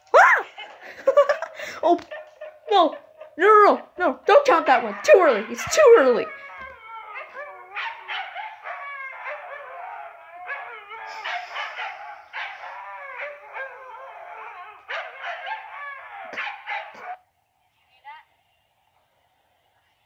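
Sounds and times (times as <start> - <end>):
huskies howling: 0.0 - 17.2.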